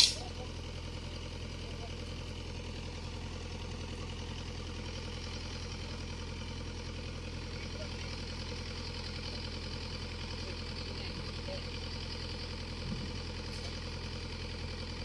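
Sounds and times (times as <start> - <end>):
excavator engine idling: 0.0 - 15.0.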